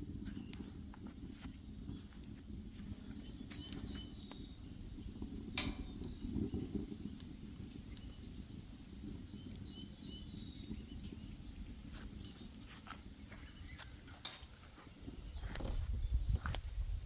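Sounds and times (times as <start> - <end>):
low outdoor rumble: 0.0 - 17.0
wood stove crackling: 0.0 - 17.0.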